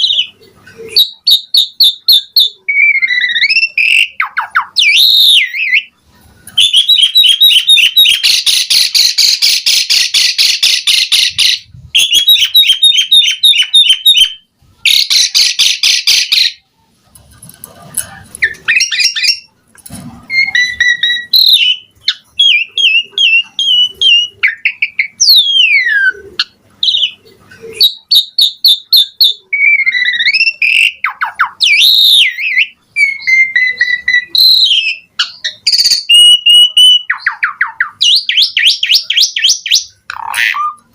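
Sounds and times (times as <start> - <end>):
starling whistles and chirps: 0.0 - 16.6, 18.4 - 19.5, 20.3 - 40.8.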